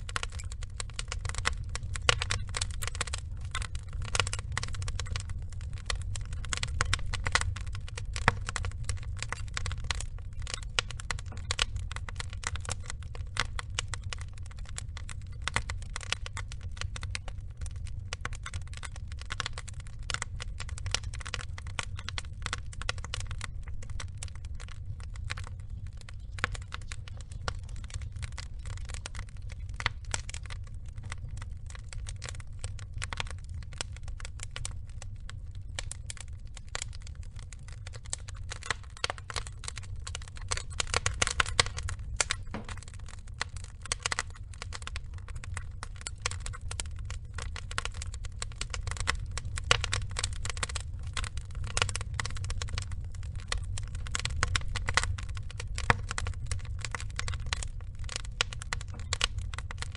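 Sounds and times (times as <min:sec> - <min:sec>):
log fire crackling and popping: 0:00.0 - 0:59.9.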